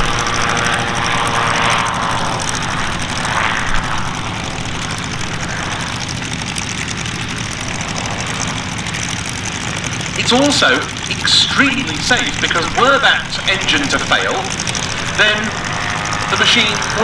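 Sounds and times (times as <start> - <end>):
aircraft engine and propeller droning: 0.0 - 17.0.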